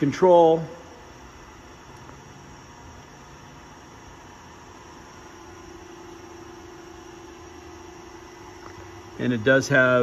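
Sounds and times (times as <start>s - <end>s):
faint steady tone: 0.0s - 10.0s
low hum and hiss: 0.0s - 10.0s.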